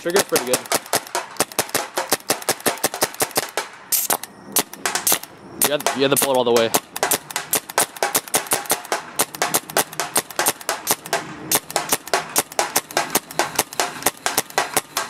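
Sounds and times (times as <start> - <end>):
paintball marker firing: 0.0 - 15.0.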